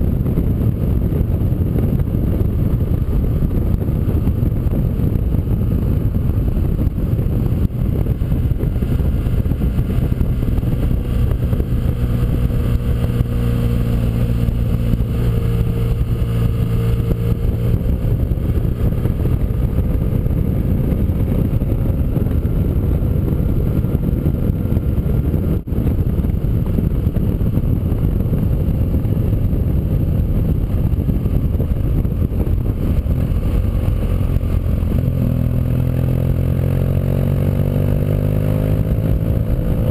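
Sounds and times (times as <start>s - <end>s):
dense low rumble: 0.0s - 39.9s
motorcycle engine drone: 0.0s - 39.9s.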